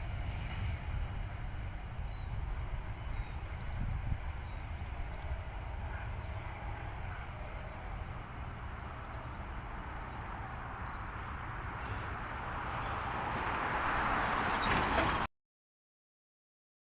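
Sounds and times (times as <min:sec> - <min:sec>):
freight train wagons rumbling: 0:00.0 - 0:15.3.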